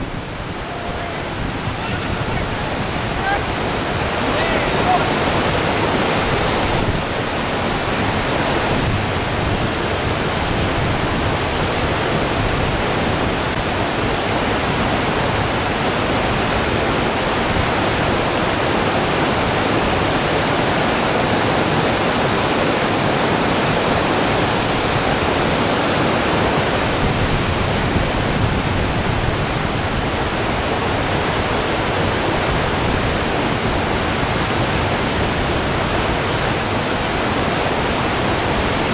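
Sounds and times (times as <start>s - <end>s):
river rapid rushing: 0.0s - 38.9s.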